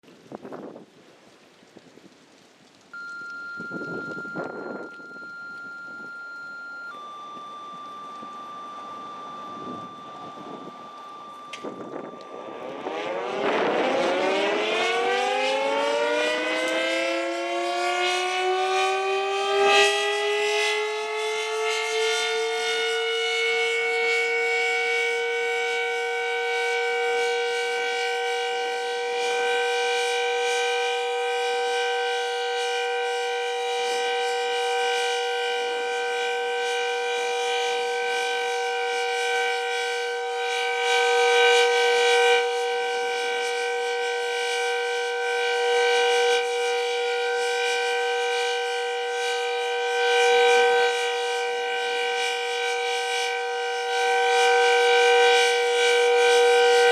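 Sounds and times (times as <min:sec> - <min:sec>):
warning siren wailing: 0:02.7 - 0:56.9.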